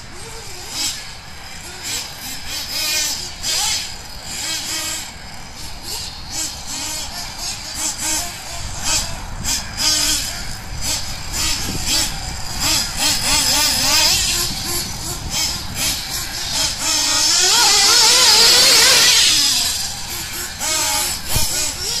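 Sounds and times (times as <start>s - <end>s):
nitro engines revving: 0.0s - 22.0s.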